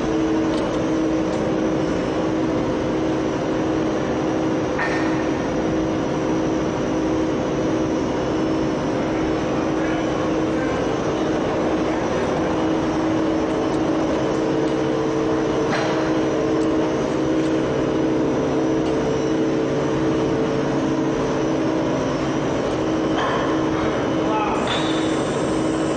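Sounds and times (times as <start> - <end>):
kiln machinery roar: 0.0 - 25.9
steady hum tones: 0.0 - 25.9.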